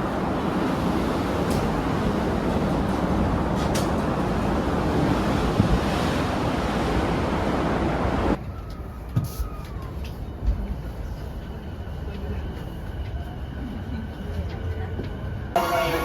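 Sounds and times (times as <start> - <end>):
train rushing: 0.0 - 8.4, 10.3 - 16.0.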